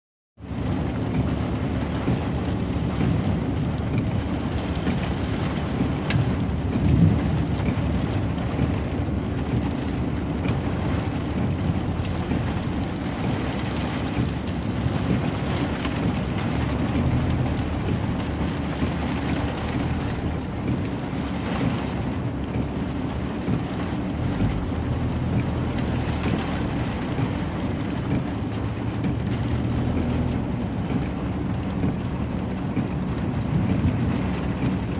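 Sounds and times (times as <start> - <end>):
heavy rain and hail: 0.4 - 34.9
low rumble: 0.7 - 34.9.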